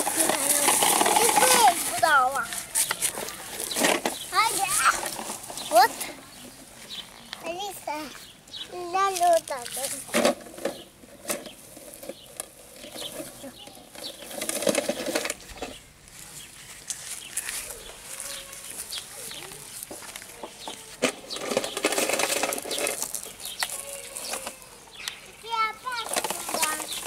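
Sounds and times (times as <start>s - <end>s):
faint children's voices: 0.0s - 11.4s, 12.8s - 27.0s
leaves and branches rustling: 0.0s - 27.0s.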